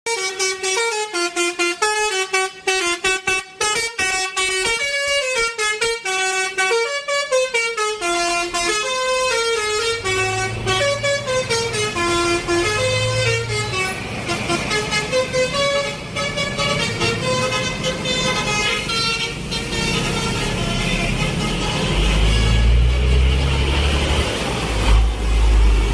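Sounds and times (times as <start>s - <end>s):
bus horn playing melody: 0.1s - 25.8s.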